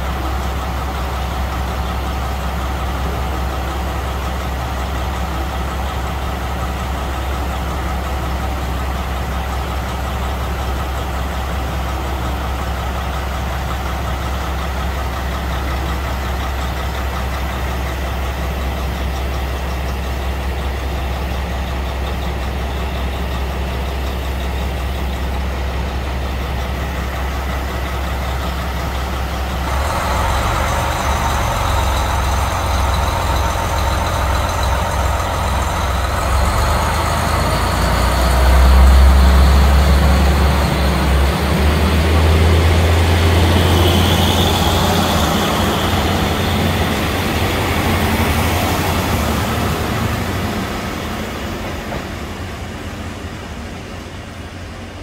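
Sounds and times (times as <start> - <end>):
diesel railcar engines: 0.0 - 55.0.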